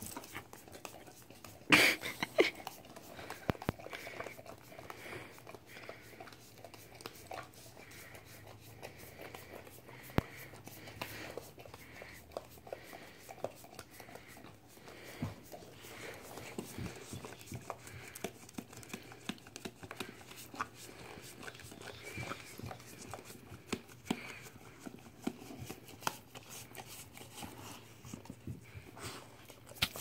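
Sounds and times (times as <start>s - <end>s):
dog licking paper cup: 0.0s - 30.0s.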